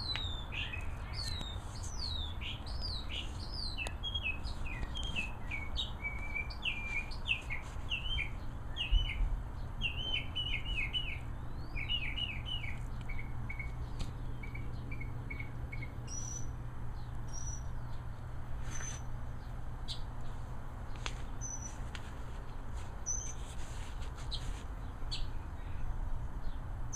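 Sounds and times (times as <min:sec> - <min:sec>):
songbird chirping: 0:00.0 - 0:26.9.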